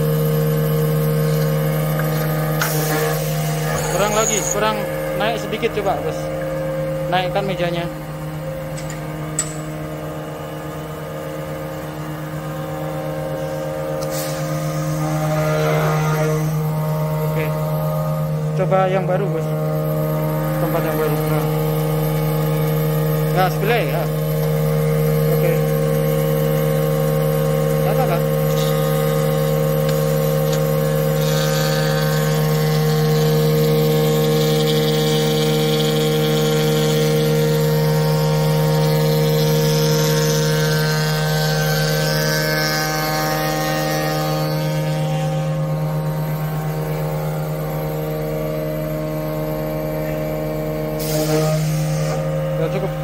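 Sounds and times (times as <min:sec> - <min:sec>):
router spindle motor running: 0:00.0 - 0:53.0.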